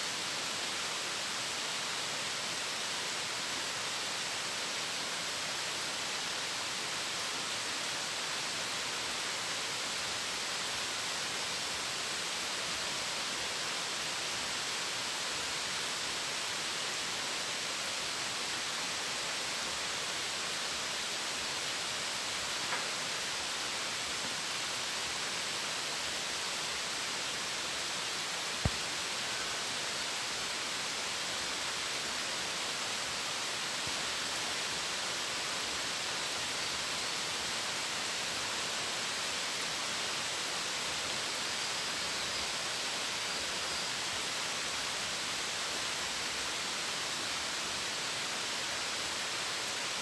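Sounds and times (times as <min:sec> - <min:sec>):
pouring rain: 0:00.0 - 0:50.0.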